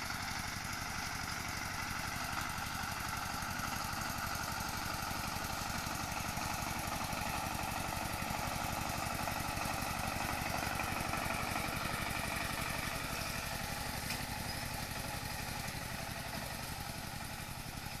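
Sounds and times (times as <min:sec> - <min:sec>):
engine chugging steadily: 0:00.0 - 0:18.0.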